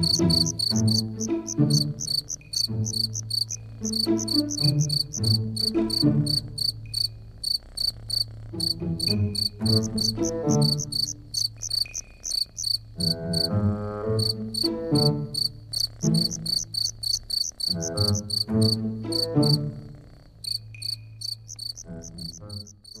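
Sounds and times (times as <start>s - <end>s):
soft music: 0.0s - 12.2s, 12.8s - 23.0s
crickets chirping: 0.0s - 23.0s.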